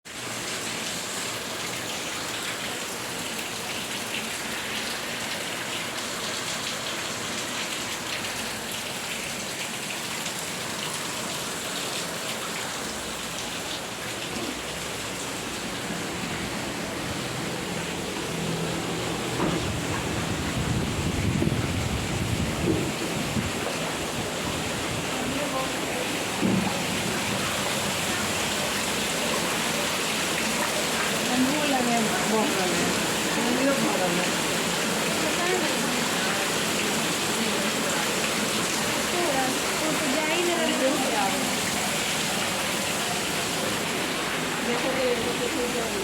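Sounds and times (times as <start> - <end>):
heavy rain hissing: 0.1 - 46.0.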